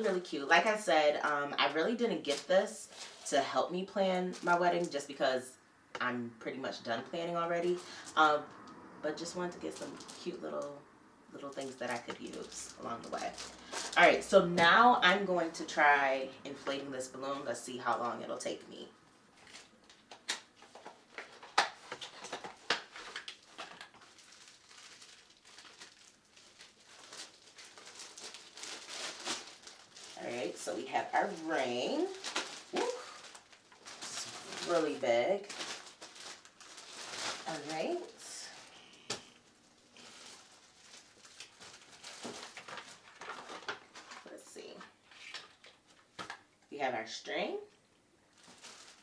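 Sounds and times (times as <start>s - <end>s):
foil balloon packet crinkling: 0.0s - 5.0s, 9.2s - 10.8s, 11.4s - 46.4s, 48.3s - 49.0s.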